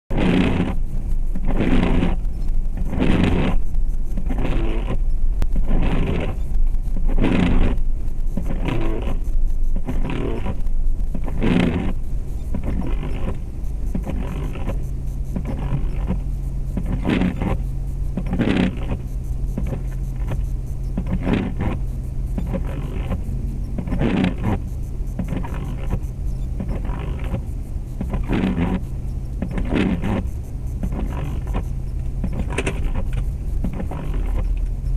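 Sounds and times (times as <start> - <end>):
car engine humming from cabin: 0.1 - 34.9
short noisy bursts: 0.1 - 34.9.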